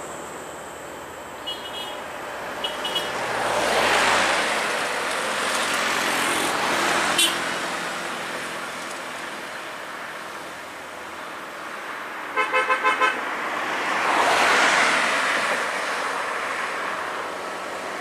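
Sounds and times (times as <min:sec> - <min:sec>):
vehicle passing on highway: 0:00.0 - 0:18.0.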